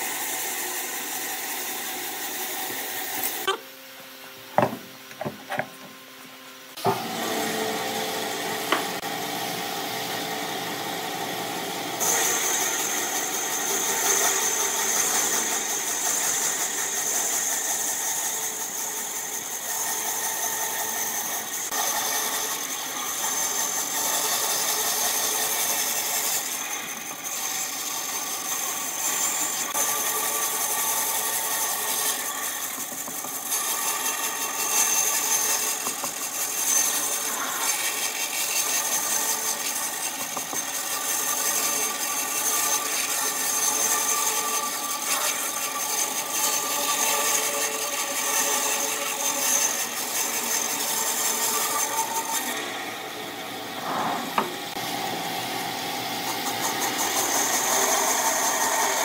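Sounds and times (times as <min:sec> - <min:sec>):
band saw cutting wood: 0:00.0 - 0:03.7, 0:06.7 - 0:59.0.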